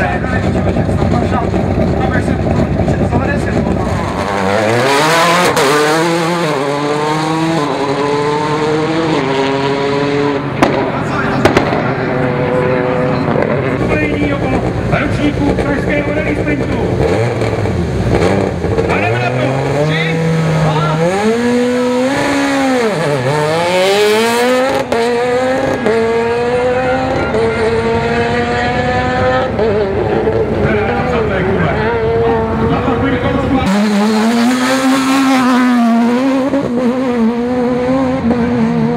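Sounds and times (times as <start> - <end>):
rally car engine accelerating: 0.0 - 38.9.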